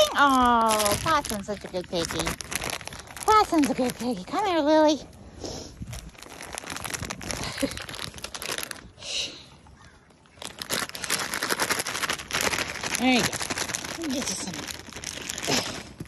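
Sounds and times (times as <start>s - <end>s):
crinkling crackling rustle: 0.0s - 16.0s.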